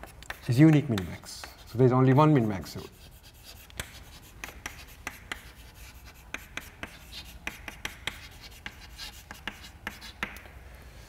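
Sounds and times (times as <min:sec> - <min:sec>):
chalk writing on chalkboard: 0:00.0 - 0:10.4.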